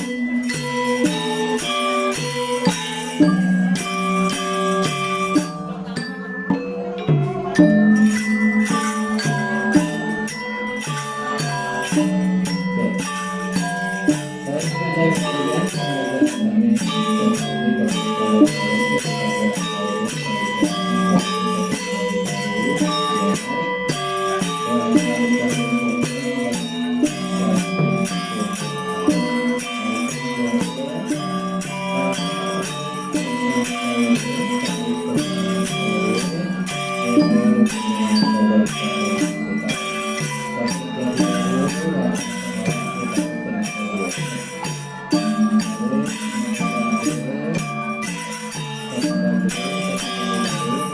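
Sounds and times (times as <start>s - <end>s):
gamelan ensemble playing: 0.0s - 50.9s.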